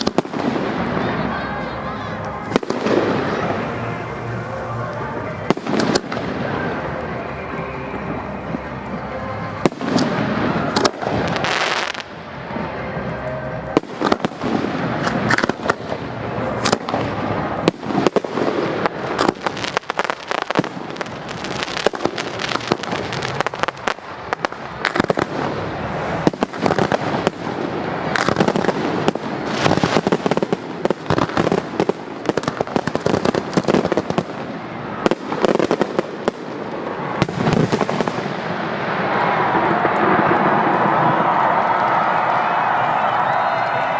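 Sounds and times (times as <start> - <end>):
fireworks bangs and crackle: 0.0 - 43.9.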